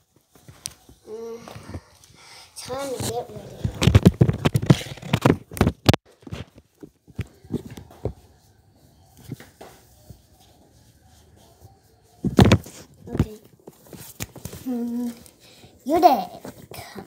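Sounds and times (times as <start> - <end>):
plush toys handling noise: 0.0 - 17.0.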